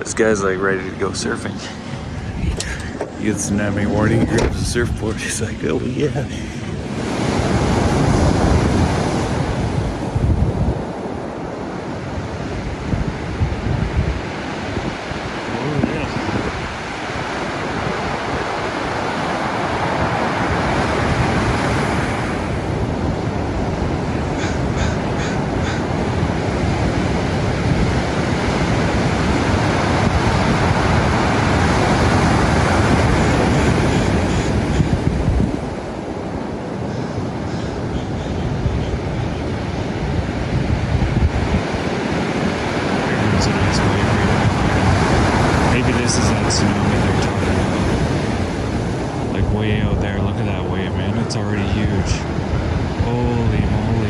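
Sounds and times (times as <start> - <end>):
waves breaking on a beach: 0.0 - 54.0
wind buffeting the microphone: 0.0 - 54.0.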